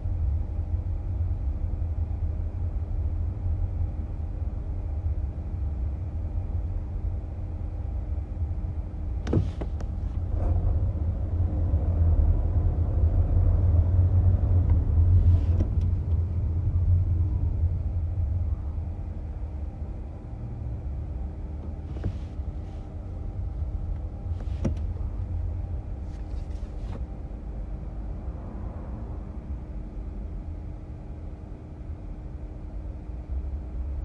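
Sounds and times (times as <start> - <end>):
car cabin road rumble: 0.0 - 34.0.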